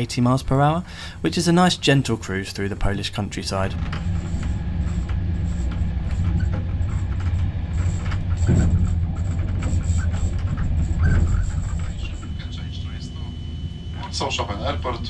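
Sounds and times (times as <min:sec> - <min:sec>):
train wheels rumbling on rail: 0:00.9 - 0:13.0.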